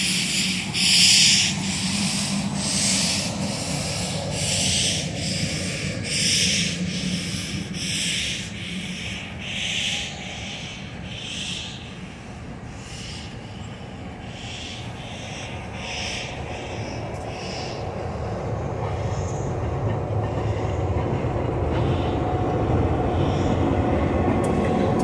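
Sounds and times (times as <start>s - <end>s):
steam locomotive exhaust chuffing: 0.0s - 25.0s.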